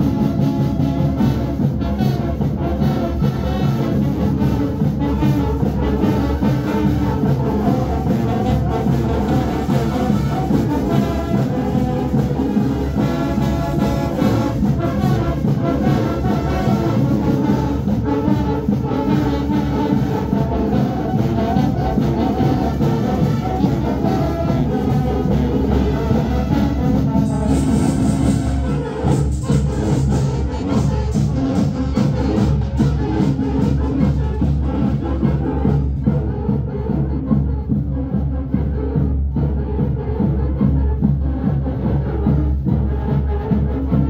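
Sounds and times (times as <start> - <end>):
marching band brass: 0.0 - 44.0
marching band drums: 0.0 - 44.0.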